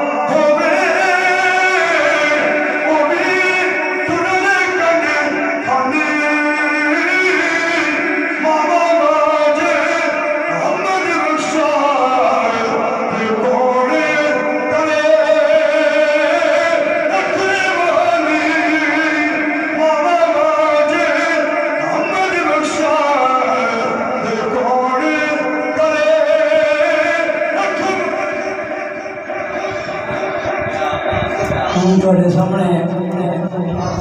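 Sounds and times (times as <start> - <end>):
man singing into a microphone: 0.0 - 34.0.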